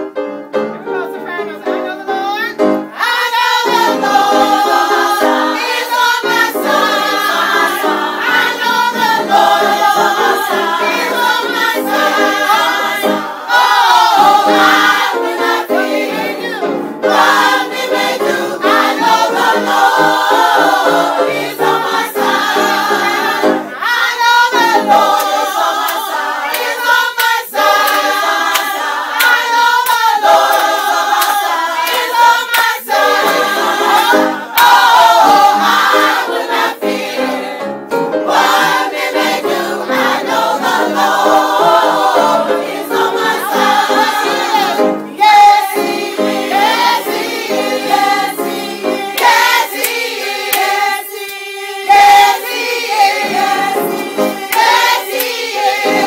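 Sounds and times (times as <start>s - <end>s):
sopranos singing gospel: 0.9s - 56.0s.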